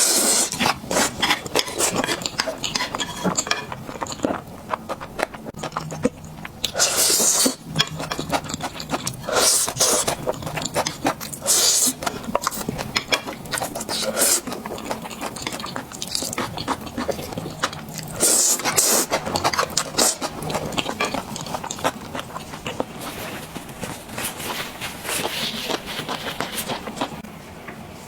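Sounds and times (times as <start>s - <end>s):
slurping: 0.0s - 4.2s, 8.2s - 27.2s.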